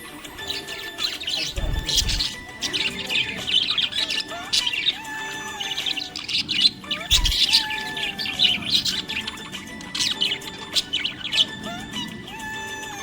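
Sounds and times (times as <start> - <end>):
background music with held tones: 0.0 - 13.0
budgerigars chirping: 0.0 - 13.0.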